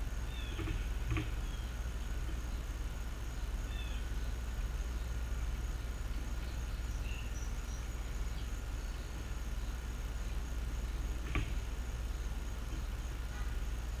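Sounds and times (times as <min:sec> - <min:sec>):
faint chirps: 0:00.0 - 0:14.0.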